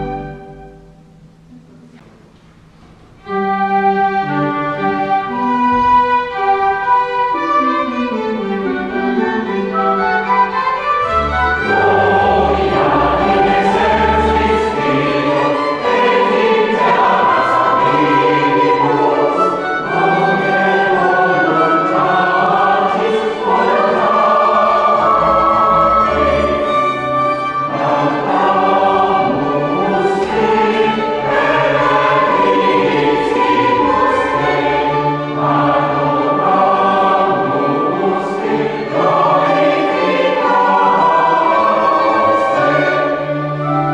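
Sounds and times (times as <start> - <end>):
choir singing in harmony: 0.0 - 1.1, 3.2 - 43.9
low organ notes: 0.0 - 43.9.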